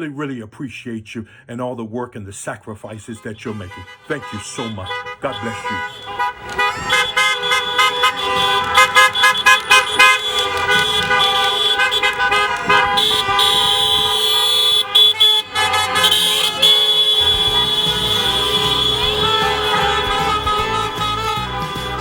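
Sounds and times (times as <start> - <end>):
car horns honking: 3.0 - 22.0.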